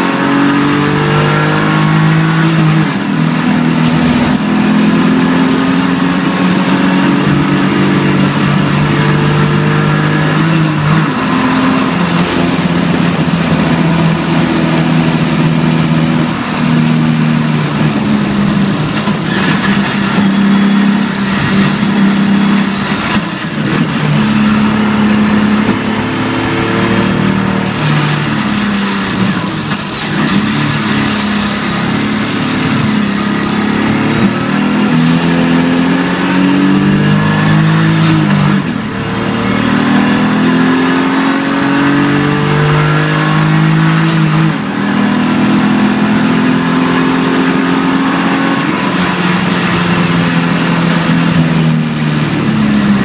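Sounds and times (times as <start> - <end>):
car engine changing gears: 0.0 - 53.0
tyre and road noise: 0.0 - 53.0.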